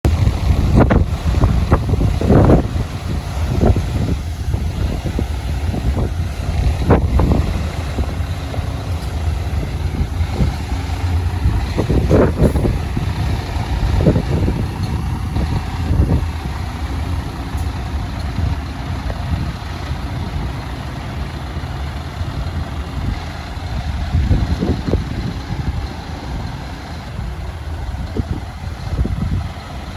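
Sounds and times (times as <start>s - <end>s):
truck diesel engine idling: 0.0s - 29.9s.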